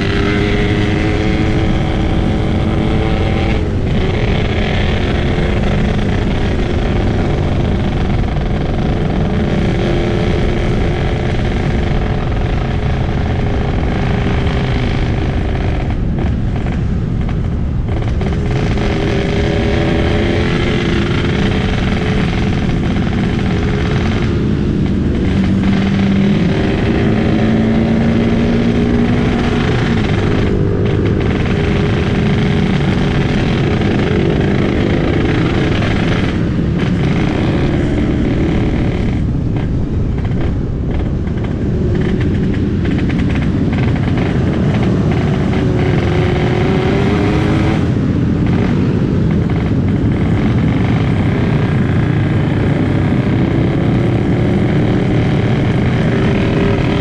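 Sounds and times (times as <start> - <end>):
raspy two-stroke motorcycle engine: 0.0 - 57.0.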